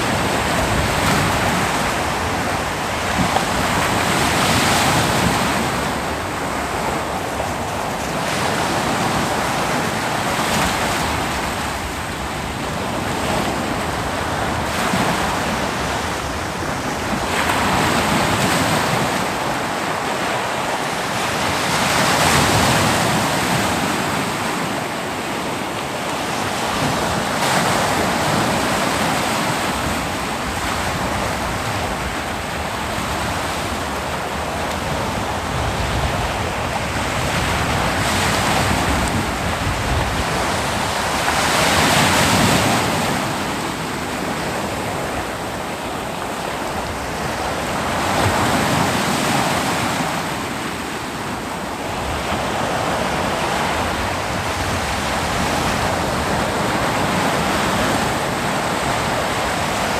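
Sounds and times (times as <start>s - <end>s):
ocean waves breaking: 0.0s - 59.9s
wind noise on microphone: 0.0s - 59.9s.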